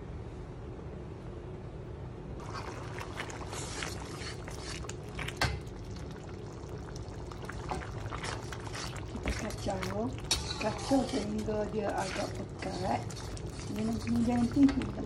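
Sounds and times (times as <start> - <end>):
chilli paste sizzling in oil: 2.4 - 15.0.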